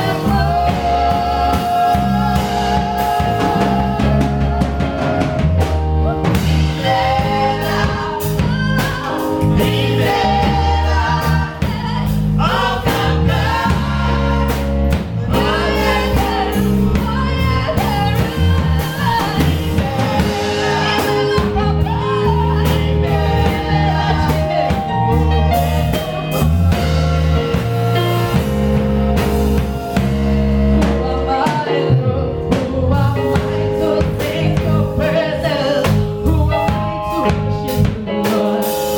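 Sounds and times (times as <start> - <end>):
choir singing: 0.0 - 27.6, 30.9 - 36.0
band with heavy bass and drums: 0.0 - 38.9.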